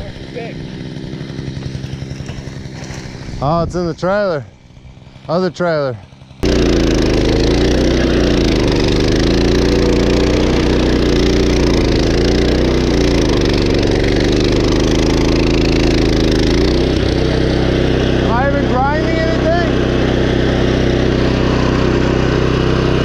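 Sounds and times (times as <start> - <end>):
small gas engine running hard: 0.0 - 23.0
wheel grinding wood: 0.0 - 23.0.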